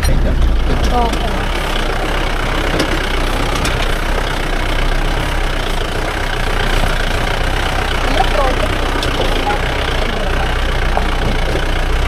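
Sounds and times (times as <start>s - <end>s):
engine running at low speed: 0.0s - 12.0s
tyres over stony track: 0.0s - 12.0s.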